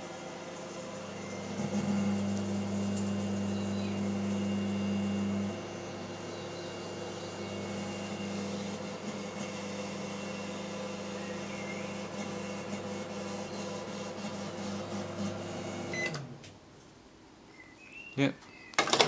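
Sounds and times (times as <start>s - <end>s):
microwave oven humming: 0.0s - 16.5s.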